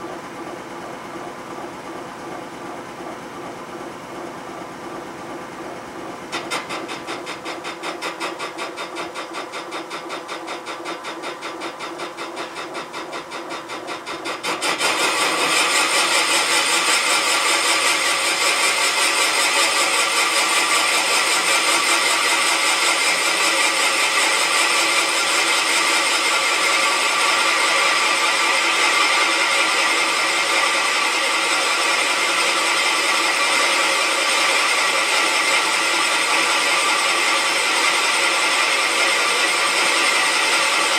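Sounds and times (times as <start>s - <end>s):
cutter machining cast iron: 6.3s - 40.9s.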